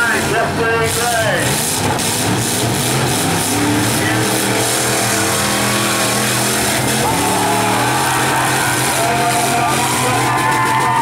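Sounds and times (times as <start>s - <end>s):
several car engines droning: 0.0s - 11.0s.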